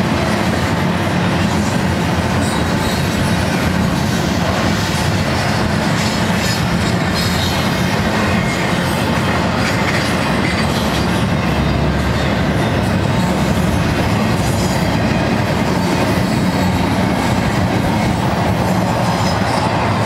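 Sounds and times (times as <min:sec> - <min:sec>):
freight train wheels rumbling on rails: 0:00.0 - 0:20.0.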